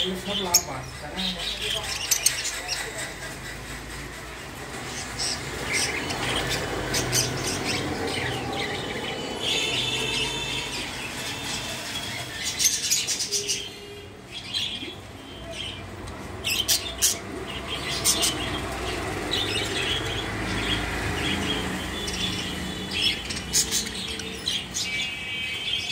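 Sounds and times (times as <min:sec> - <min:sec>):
budgerigars chirping: 0:00.0 - 0:03.2, 0:04.8 - 0:15.8, 0:16.4 - 0:25.9.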